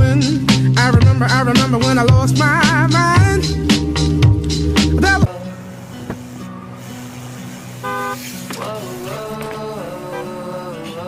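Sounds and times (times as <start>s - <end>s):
pop song with vocals: 0.0s - 6.3s, 8.4s - 11.0s.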